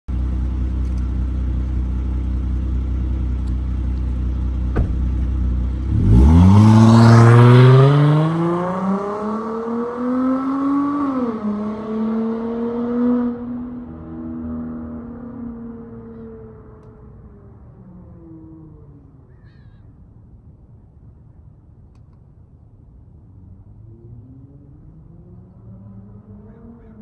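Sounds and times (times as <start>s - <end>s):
car exhaust rumbling and accelerating: 0.1s - 19.4s, 22.6s - 27.0s.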